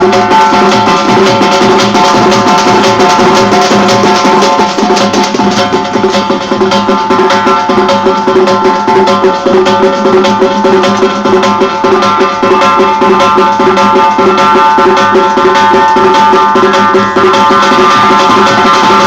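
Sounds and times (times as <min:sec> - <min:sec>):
fast steady drumming: 0:00.0 - 0:19.0.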